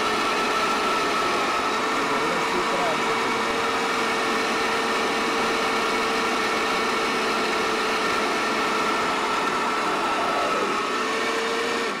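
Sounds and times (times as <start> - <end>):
mixer grinder motor whining: 0.0 - 12.0.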